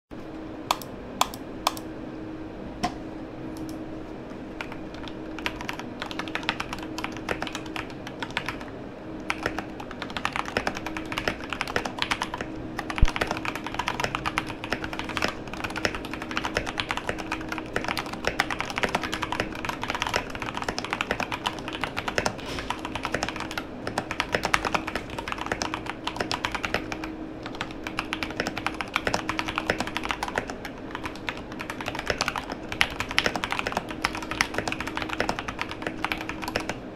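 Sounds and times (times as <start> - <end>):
mechanical keyboard typing: 4.6 - 36.8.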